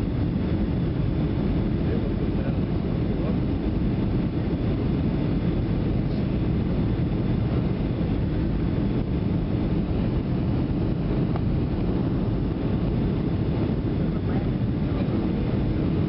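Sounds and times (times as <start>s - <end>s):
airplane cabin engine roar: 0.0s - 16.0s.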